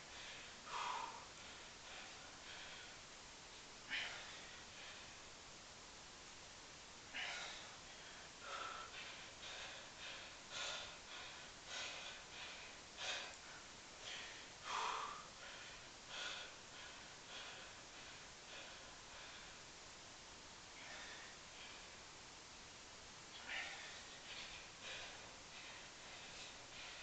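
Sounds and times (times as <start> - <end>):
man breathing hard: 0.0 - 5.4, 7.1 - 19.9, 20.6 - 22.1, 23.3 - 27.0.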